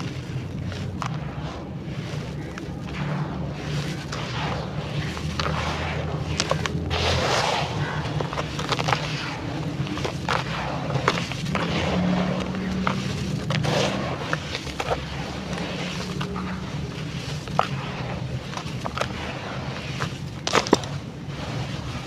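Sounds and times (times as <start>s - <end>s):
dry clay crunching and crumbling: 0.0s - 22.0s
sharp snaps and crackles: 0.0s - 22.0s
steady low hum: 0.0s - 22.0s.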